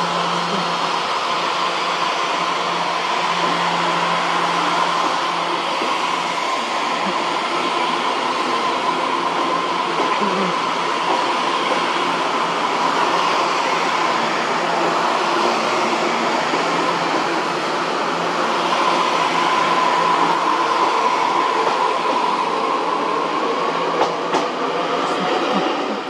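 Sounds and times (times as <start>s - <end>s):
train rolling past: 0.0s - 26.0s.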